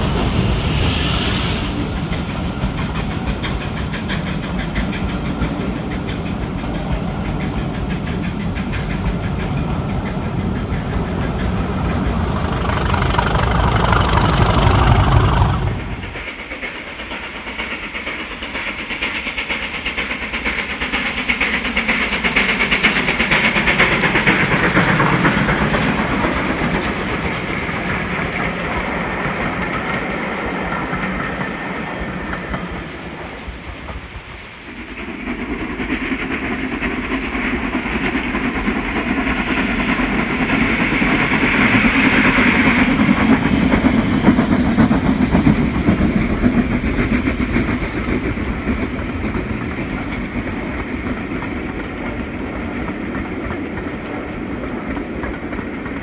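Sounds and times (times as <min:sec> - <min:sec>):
steam locomotive exhaust: 0:00.0 - 0:56.0
train rumble: 0:00.0 - 0:56.0
carriages rolling on rails: 0:01.5 - 0:56.0.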